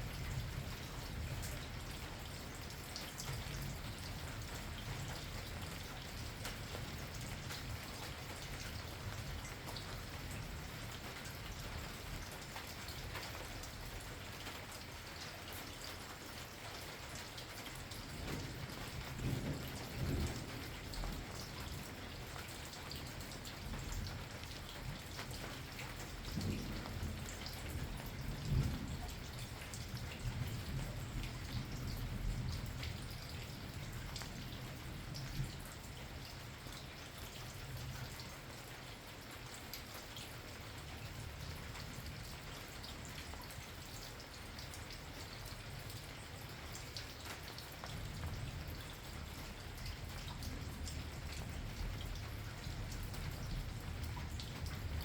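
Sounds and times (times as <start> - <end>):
raindrops ticking close by: 0.0 - 55.0
steady rain: 0.0 - 55.0.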